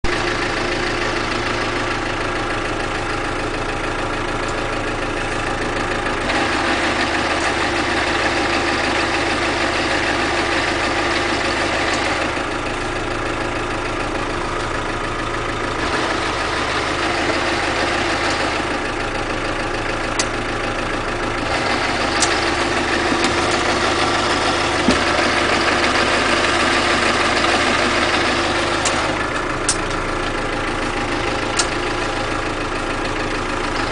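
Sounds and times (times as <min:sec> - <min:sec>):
vehicle gearbox drone: 0:00.0 - 0:33.9.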